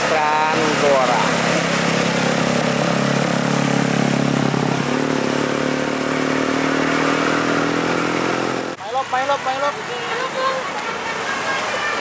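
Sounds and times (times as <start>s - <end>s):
bus droning: 0.0s - 12.0s
street noise: 0.0s - 12.0s.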